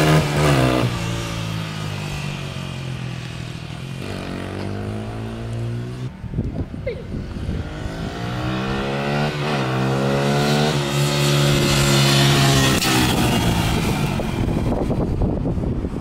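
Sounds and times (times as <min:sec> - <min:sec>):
dirt bike engine passing: 0:00.0 - 0:06.2, 0:07.1 - 0:15.8.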